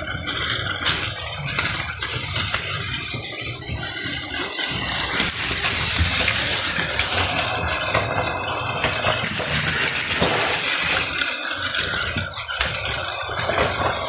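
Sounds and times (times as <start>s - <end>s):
toy train motor whir: 0.0s - 14.0s
toy train wheels clicking on track: 0.0s - 14.0s.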